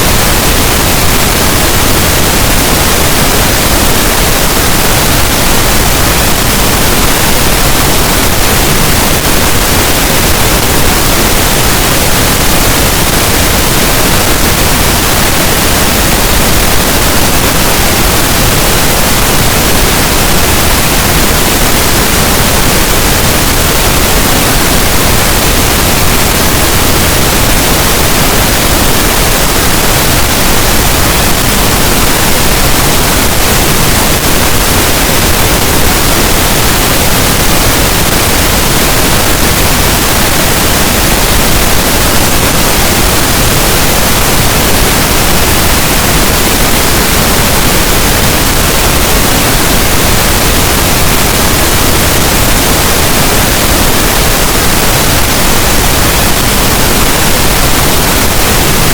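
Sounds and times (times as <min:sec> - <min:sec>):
steady pink noise hiss: 0:00.0 - 0:58.9.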